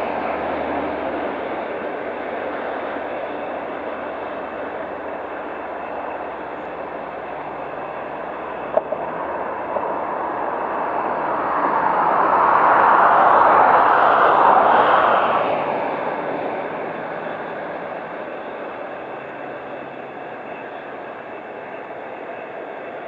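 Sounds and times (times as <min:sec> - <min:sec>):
diesel locomotive rumbling: 0:00.0 - 0:23.0.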